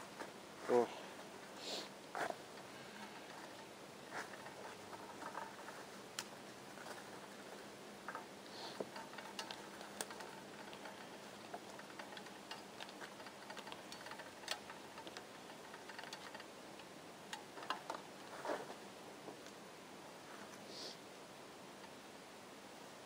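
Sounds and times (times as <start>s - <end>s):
low hiss: 0.0s - 23.0s
faint irregular clicks: 1.1s - 19.6s, 21.7s - 22.1s.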